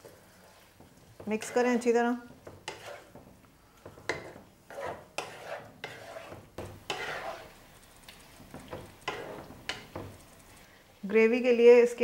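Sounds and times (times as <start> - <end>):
wooden spatula scraping wok: 0.0 - 10.6
food sizzling: 0.0 - 12.0.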